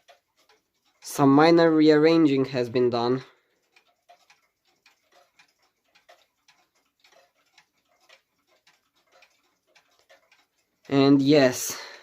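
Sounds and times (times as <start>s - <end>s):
clocks ticking: 0.0s - 12.0s.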